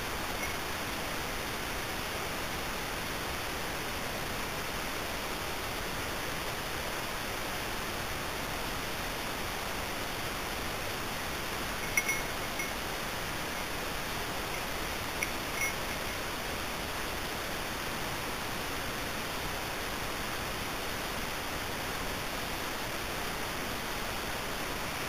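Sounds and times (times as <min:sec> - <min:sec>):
microphone hiss: 0:00.0 - 0:25.0.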